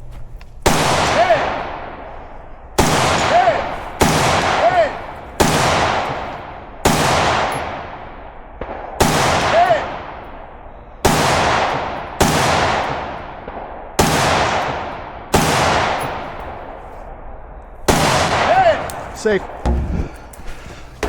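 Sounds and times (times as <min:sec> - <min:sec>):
rifle shots with echo: 0:00.6 - 0:19.6.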